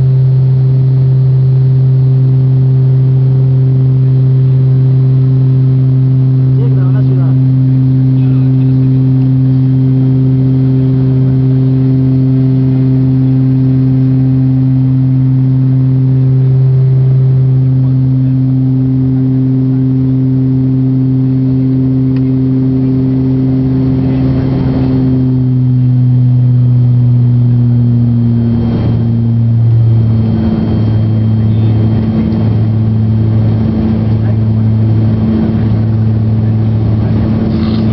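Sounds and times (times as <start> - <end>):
turboprop engine drone: 0.0 - 37.9.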